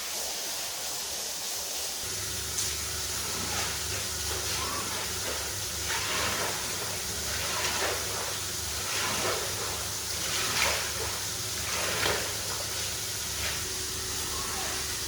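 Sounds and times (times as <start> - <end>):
spray swishing across rug: 0.0 - 13.8
water spray hissing: 0.0 - 15.0.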